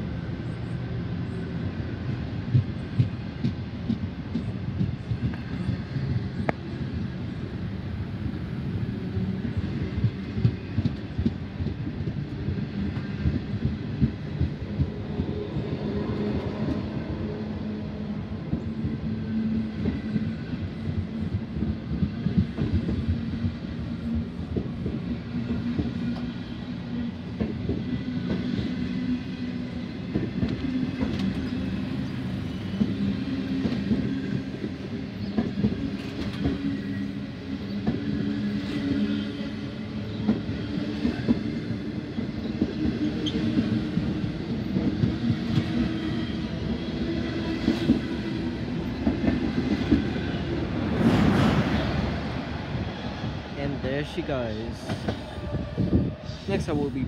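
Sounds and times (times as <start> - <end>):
train wheels clattering over rails: 2.1 - 7.4, 9.2 - 17.4, 18.4 - 56.4.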